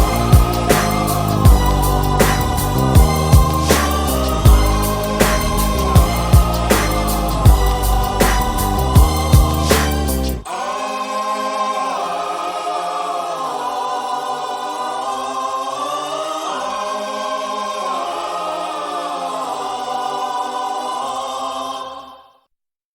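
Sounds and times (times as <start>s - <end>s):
wordless choir singing: 0.0s - 22.5s.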